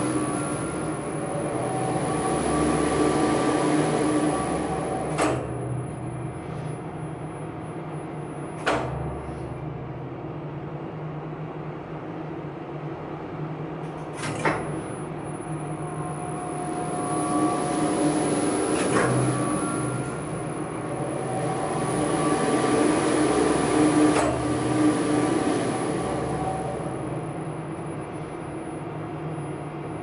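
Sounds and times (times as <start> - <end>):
machine room equipment humming: 0.0 - 30.0.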